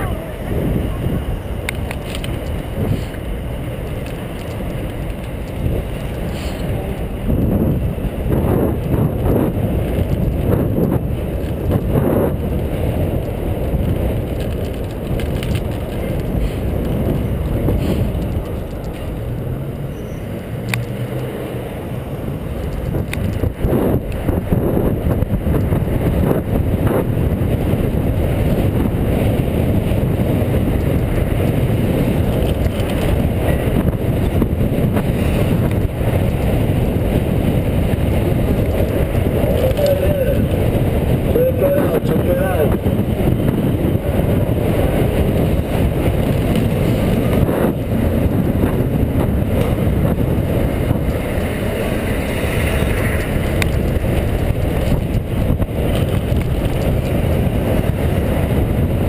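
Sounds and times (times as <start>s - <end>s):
street traffic: 0.0s - 59.0s
wind rumbling on microphone: 0.0s - 59.0s.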